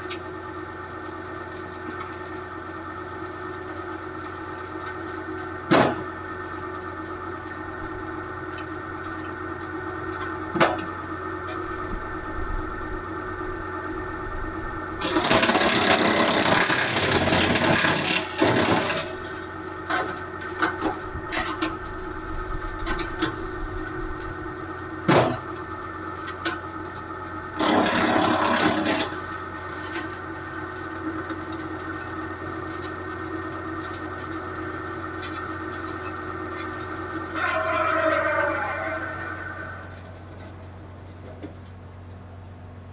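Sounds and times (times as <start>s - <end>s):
wood chipper running: 0.0s - 42.9s.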